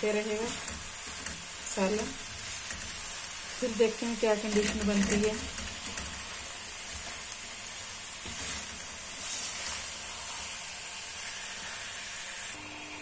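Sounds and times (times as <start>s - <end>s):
curry sizzling in a pan: 0.0s - 12.6s.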